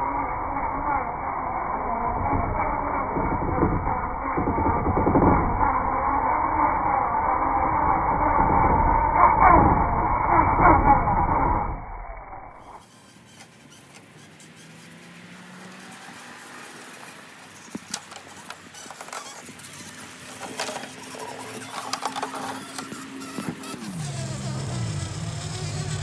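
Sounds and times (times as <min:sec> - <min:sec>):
electric motor whining faintly: 0:00.0 - 0:26.0.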